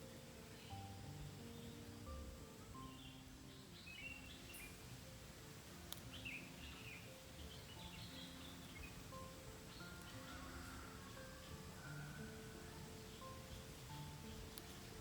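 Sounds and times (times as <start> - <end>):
slow background music: 0.0 - 15.0
small birds chirping: 0.0 - 15.0.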